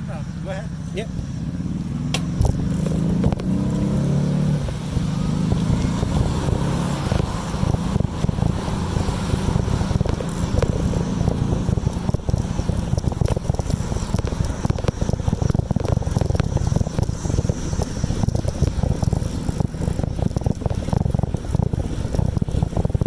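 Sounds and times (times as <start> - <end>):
bicycle road rumble: 0.0 - 23.0
wind buffeting microphone: 0.0 - 23.0.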